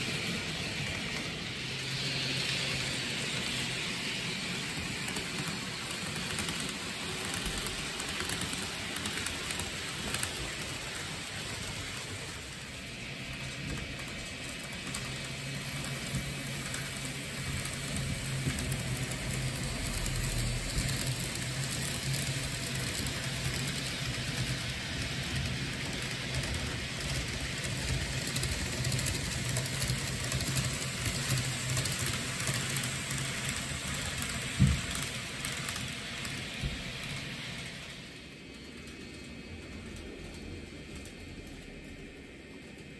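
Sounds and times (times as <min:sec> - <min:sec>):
model train wheels rolling on rails: 0:00.0 - 0:42.9.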